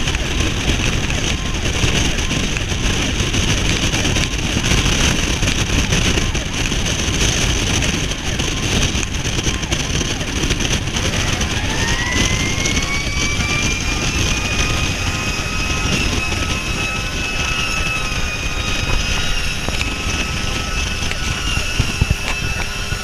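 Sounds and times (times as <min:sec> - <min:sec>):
engine and road noise: 0:00.0 - 0:23.0
fire engine siren: 0:00.0 - 0:23.0
wind buffeting microphone: 0:00.0 - 0:23.0.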